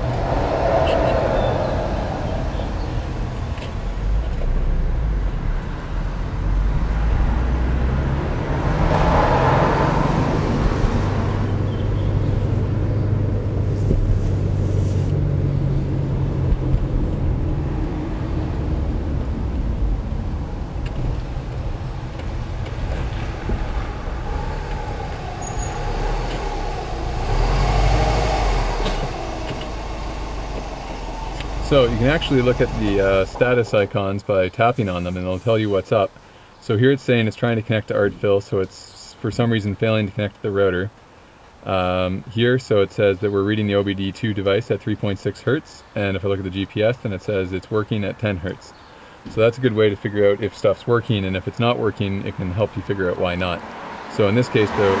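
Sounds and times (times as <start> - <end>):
car engine drone: 0.0 - 43.8, 44.4 - 55.0
tyre and road noise: 0.0 - 55.0.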